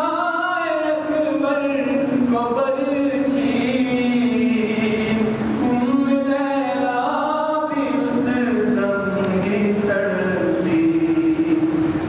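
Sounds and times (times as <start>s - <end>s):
man chanting into microphone: 0.0s - 11.8s.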